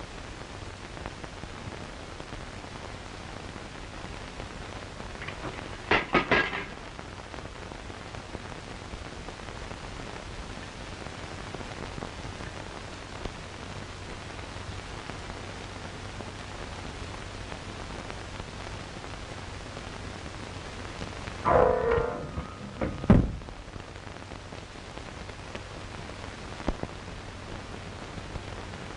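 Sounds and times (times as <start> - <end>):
film soundtrack hiss and crackle: 0.0 - 28.9.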